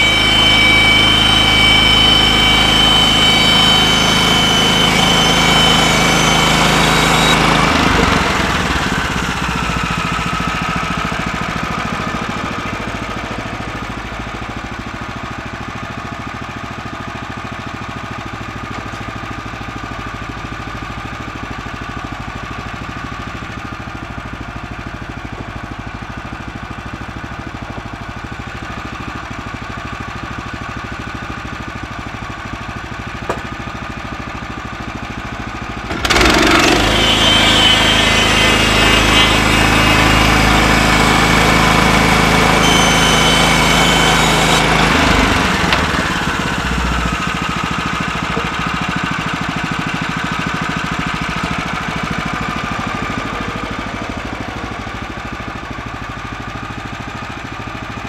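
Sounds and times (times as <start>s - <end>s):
small gas engine idling: 0.0s - 58.0s.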